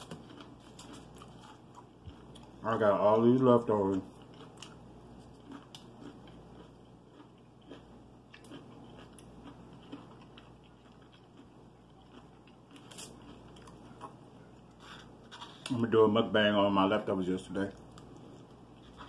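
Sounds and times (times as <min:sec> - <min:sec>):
chewing food: 0:00.0 - 0:15.8, 0:17.7 - 0:19.0.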